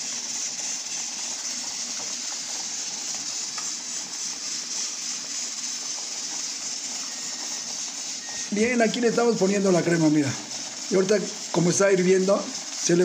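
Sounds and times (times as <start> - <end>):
broth hissing and bubbling: 0.0 - 13.0.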